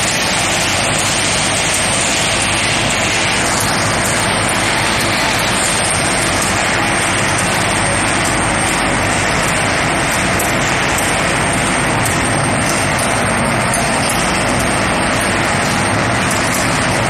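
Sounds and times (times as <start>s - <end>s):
loud steady machine noise: 0.0s - 17.0s.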